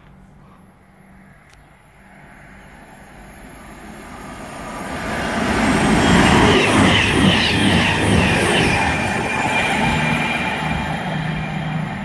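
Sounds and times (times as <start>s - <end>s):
diesel train approaching: 0.2s - 12.0s.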